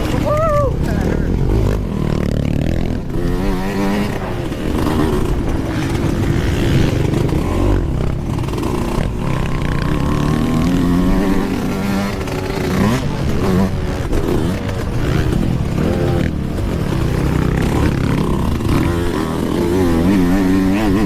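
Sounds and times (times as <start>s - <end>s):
two-stroke dirt bike engine revving: 0.0s - 21.0s.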